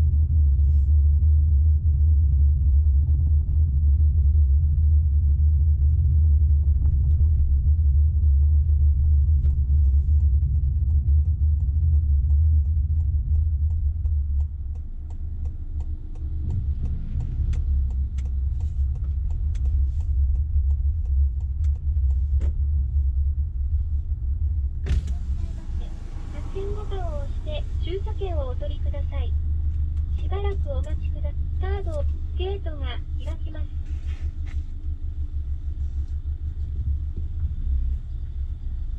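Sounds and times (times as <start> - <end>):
car road noise rumble: 0.0 - 38.9.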